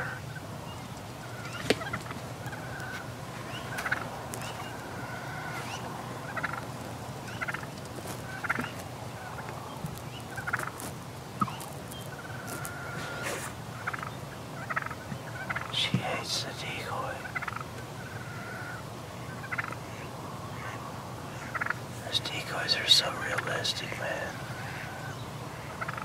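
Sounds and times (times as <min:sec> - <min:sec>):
wild turkeys calling: 0:00.0 - 0:26.0.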